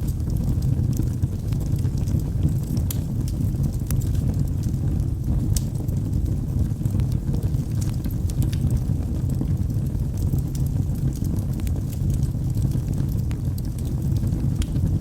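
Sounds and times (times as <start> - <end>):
fire crackles and pops: 0.0 - 15.0
log fire rumbling: 0.0 - 15.0.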